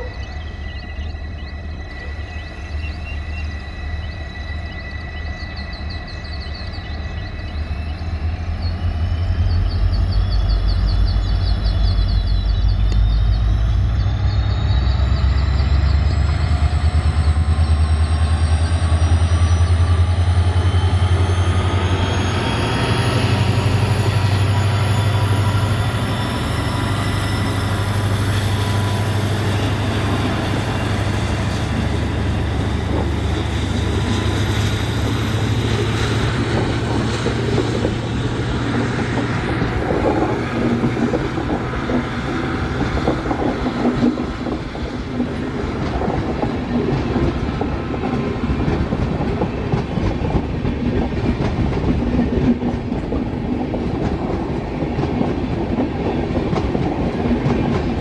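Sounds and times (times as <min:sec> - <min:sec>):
coaches rolling on rails: 0:00.0 - 0:58.0
locomotive engine drone with whines: 0:00.0 - 0:58.0.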